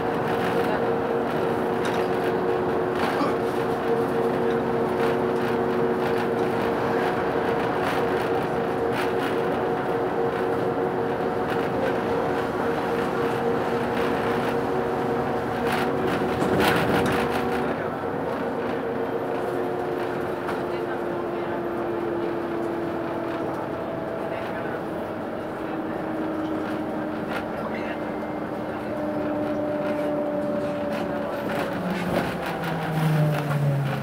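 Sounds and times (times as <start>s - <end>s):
bus engine hum: 0.0s - 34.0s
road and rattle noise: 0.0s - 34.0s.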